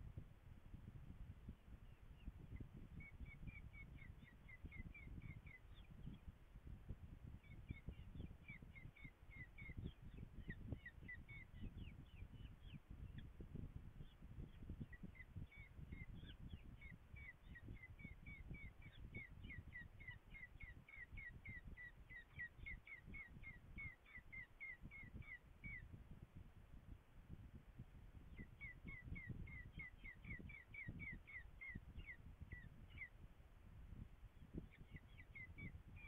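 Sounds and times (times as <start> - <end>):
low wind rumble: 0.0 - 36.0.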